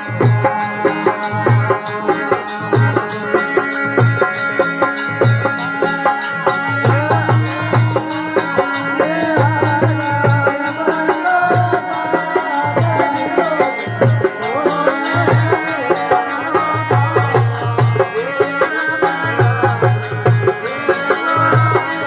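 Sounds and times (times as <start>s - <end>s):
hand drum beat: 0.0s - 22.0s
jingling percussion: 0.0s - 22.0s
wavering melody line: 0.0s - 22.0s.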